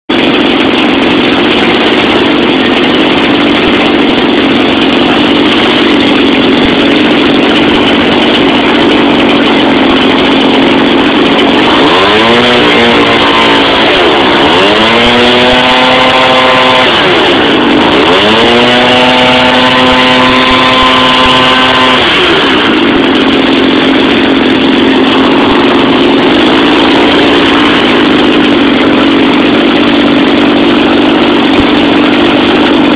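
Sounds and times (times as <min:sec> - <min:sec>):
two-stroke engine revving: 0:00.1 - 0:32.9.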